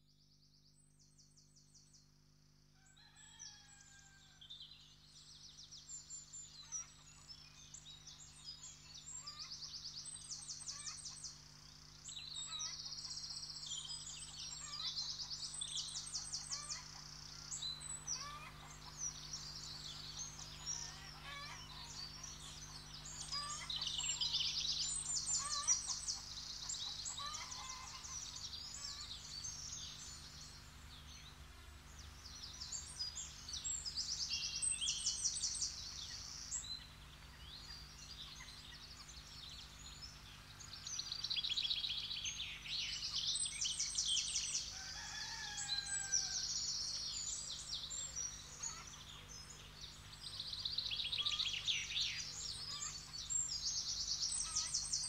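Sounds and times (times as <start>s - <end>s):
songbirds trilling and chirping: 2.8s - 55.0s.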